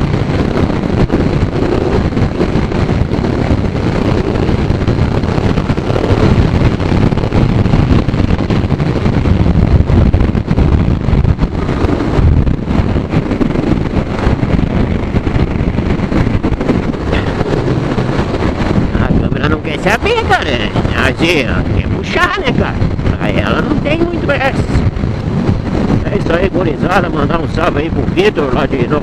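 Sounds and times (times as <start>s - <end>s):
motorcycle engine: 0.0s - 26.2s
wind buffeting microphone: 0.0s - 29.0s.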